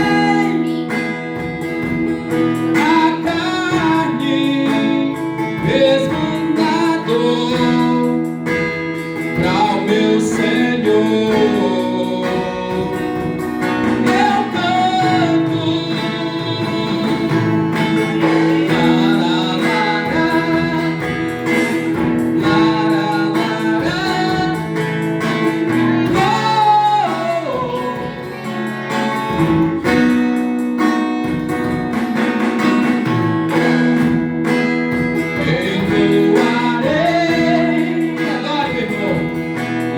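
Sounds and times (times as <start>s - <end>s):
person singing worship song: 0.0s - 30.2s, 35.0s - 39.9s
guitar accompaniment: 0.0s - 39.9s.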